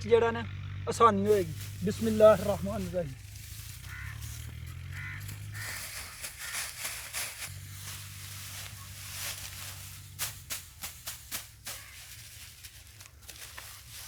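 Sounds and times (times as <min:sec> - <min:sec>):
dry straw rustling and crackling: 0:01.3 - 0:14.0.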